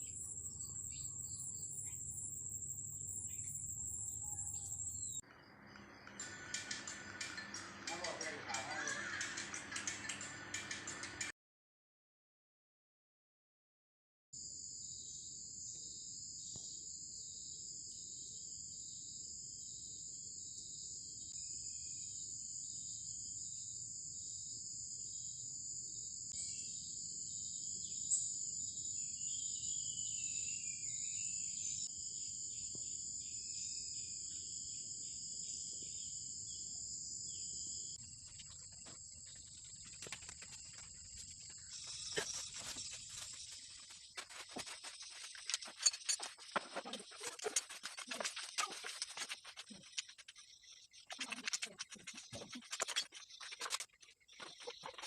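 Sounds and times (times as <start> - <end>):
pulsing insect chirp: 0.0 - 7.6, 14.4 - 55.0
insects chirring drone: 0.0 - 11.3, 14.4 - 55.0.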